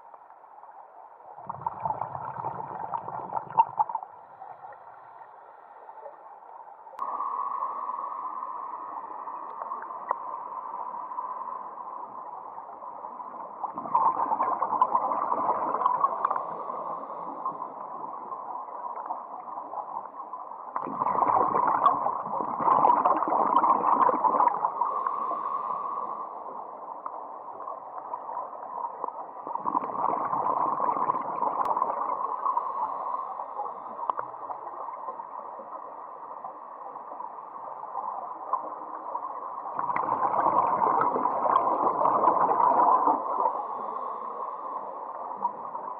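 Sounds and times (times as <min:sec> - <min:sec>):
underwater exhaust bubbling: 0:01.4 - 0:06.4, 0:07.0 - 0:37.1, 0:37.7 - 0:45.9.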